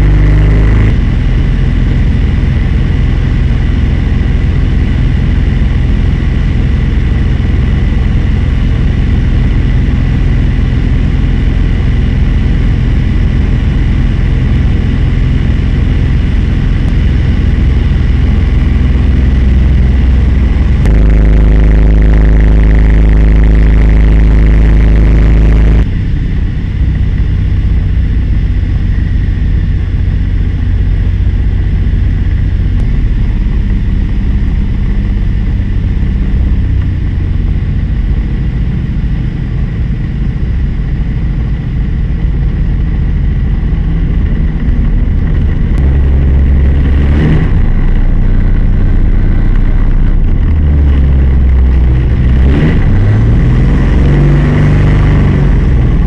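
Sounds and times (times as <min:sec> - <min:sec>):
two-stroke propeller engine running: 0:00.0 - 0:56.0.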